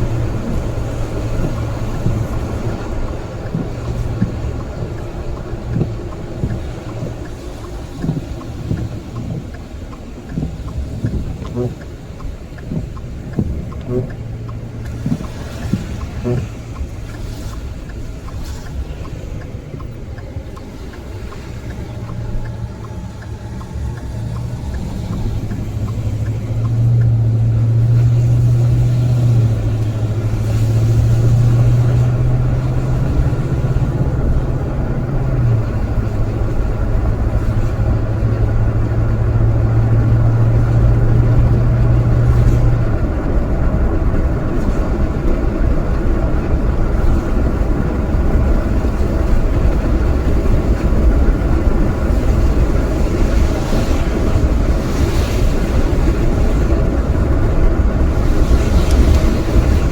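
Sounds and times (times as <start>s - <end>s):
constant rumble: 0.0s - 59.9s
low engine hum: 0.0s - 59.9s.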